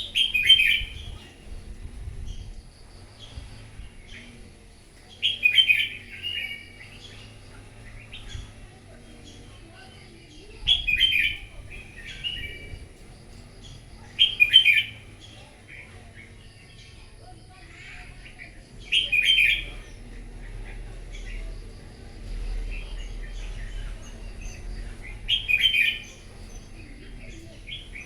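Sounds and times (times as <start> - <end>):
bird singing chirpy phrases: 0.0 - 28.0
soft bird chirps: 0.0 - 28.0.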